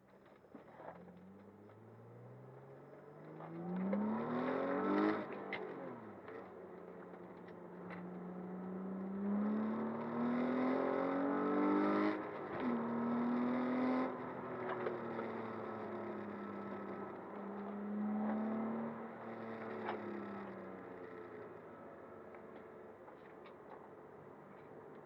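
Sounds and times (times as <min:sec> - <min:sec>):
car engine accelerating: 0:00.6 - 0:21.6.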